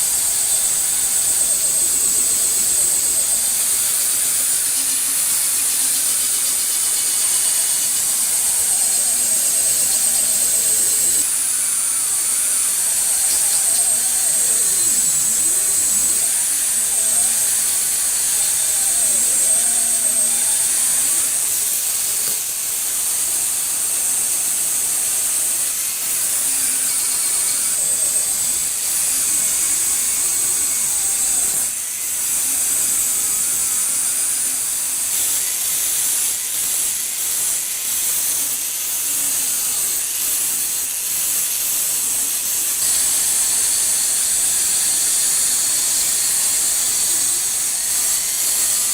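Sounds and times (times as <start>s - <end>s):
angle grinder on steel: 0.0s - 48.9s.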